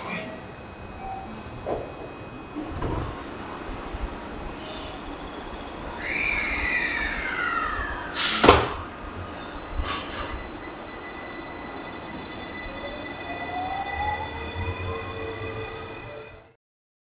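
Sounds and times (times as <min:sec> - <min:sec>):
electric train whine moving off: 0:00.0 - 0:16.6
loud burst of train noise: 0:00.0 - 0:16.6.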